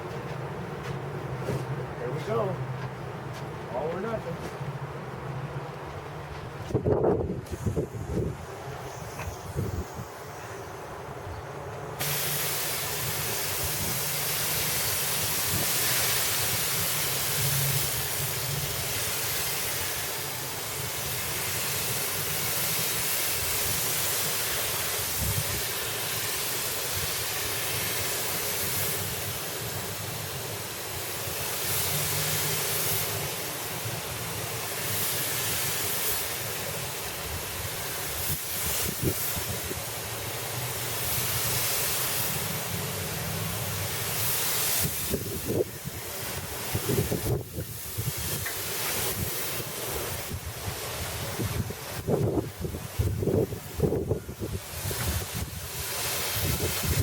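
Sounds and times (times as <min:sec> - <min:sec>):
sprayer hissing: 0:06.7 - 0:57.0.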